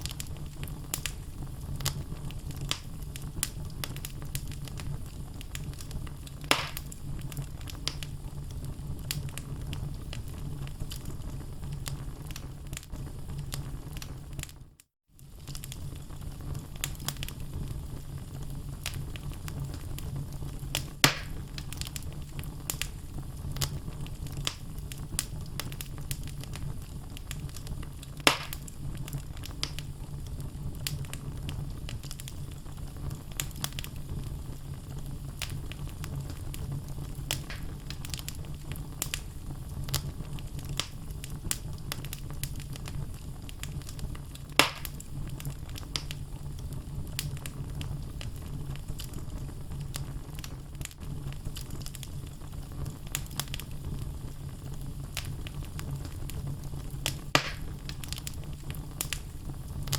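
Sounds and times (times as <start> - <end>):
loud fire pops: 0.0 - 14.6, 15.2 - 59.9
low rumble of flames: 0.0 - 59.9
wood fire crackling: 0.0 - 59.9.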